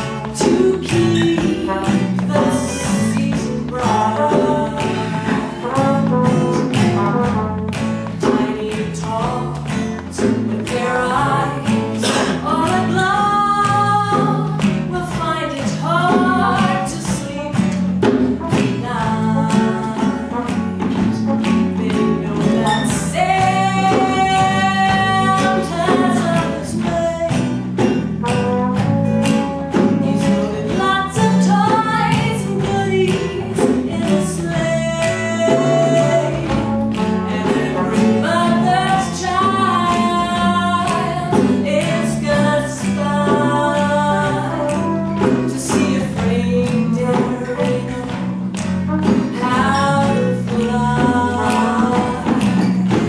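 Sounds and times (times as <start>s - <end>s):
acoustic guitar: 0.0s - 53.0s
woman singing: 0.0s - 53.0s.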